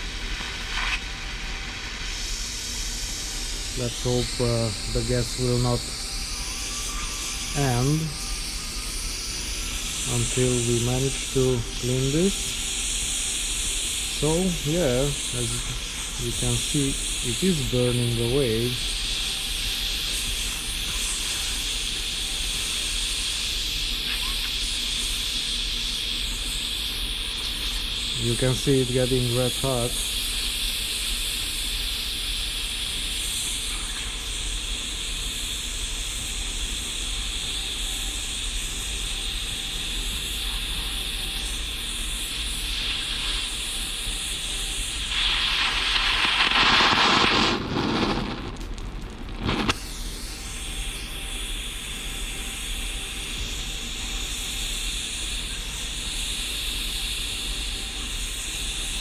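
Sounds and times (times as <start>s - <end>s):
blowtorch flame hissing: 0.0s - 59.0s.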